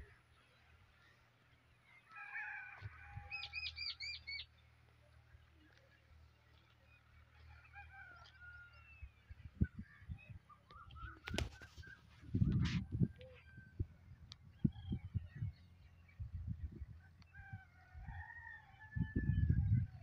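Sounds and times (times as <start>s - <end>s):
birds calling: 0.0s - 17.6s.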